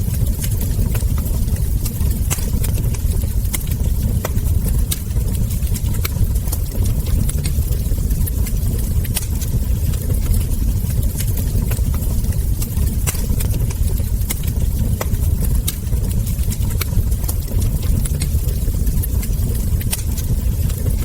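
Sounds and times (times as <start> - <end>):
fire crackling and popping: 0.0 - 21.0
low fire rumble: 0.0 - 21.0.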